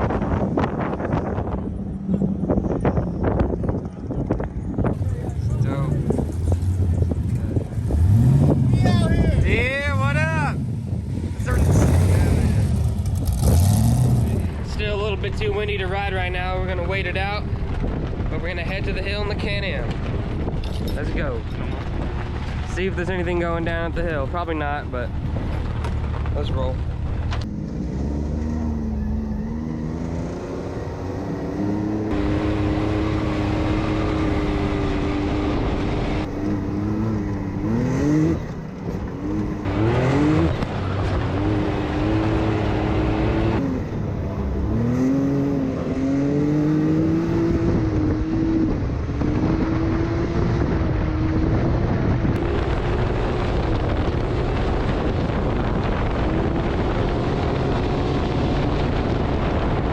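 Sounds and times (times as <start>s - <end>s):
vehicle engine revving: 0.0s - 19.1s, 21.6s - 59.9s.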